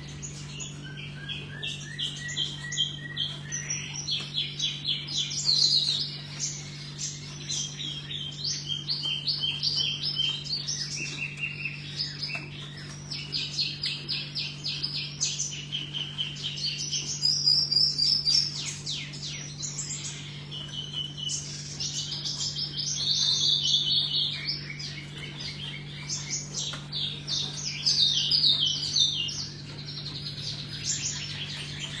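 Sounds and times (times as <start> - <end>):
songbird singing trills: 0.0 - 32.0
steady low hum: 0.0 - 32.0.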